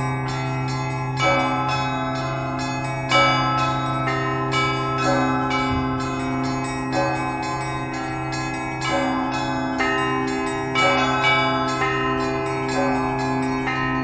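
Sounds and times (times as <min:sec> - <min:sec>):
heavy bell strikes: 0:00.0 - 0:14.0
large bell humming: 0:00.0 - 0:14.0
small bells chiming: 0:00.0 - 0:14.0.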